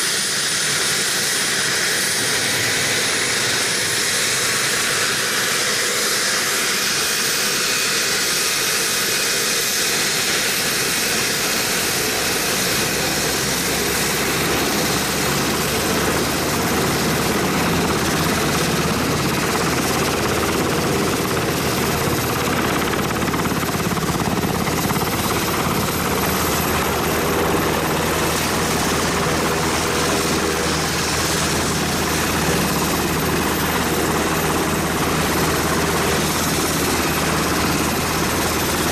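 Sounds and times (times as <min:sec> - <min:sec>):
helicopter engine whine: 0:00.0 - 0:38.9
helicopter rotor beat: 0:00.0 - 0:38.9.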